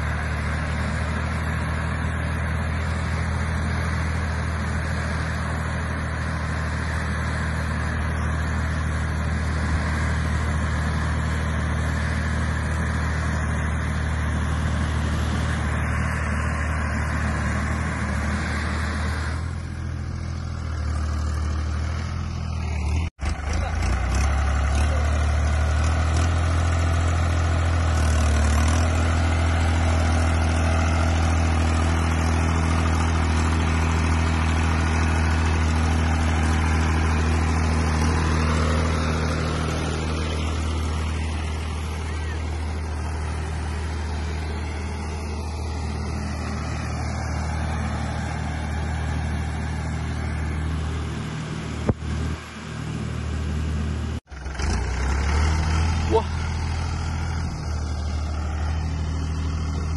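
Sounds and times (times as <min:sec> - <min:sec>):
tractor diesel engine hum: 0:00.0 - 0:59.9.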